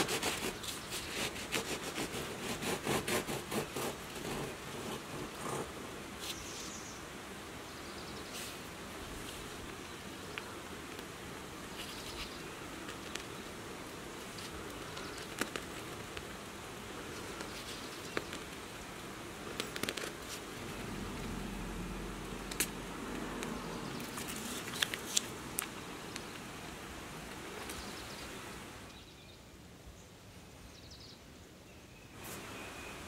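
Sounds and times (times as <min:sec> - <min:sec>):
faint hiss: 0:00.0 - 0:33.0.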